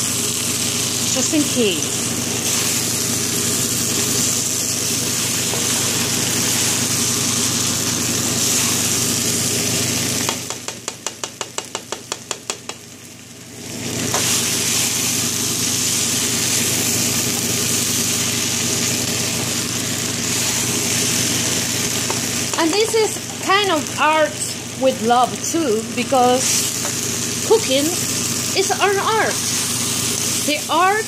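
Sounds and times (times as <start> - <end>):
rice sizzling in a wok: 0.0 - 31.0.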